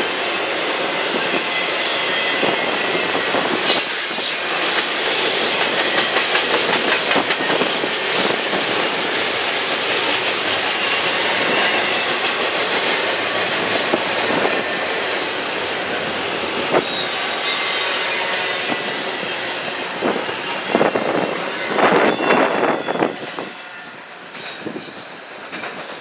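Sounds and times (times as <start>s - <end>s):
train wheels clickety-clack: 0.0s - 26.0s.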